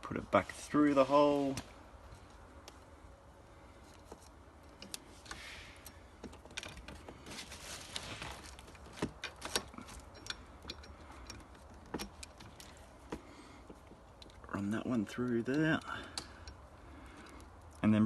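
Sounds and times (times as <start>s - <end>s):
rustling: 0.4s - 15.2s.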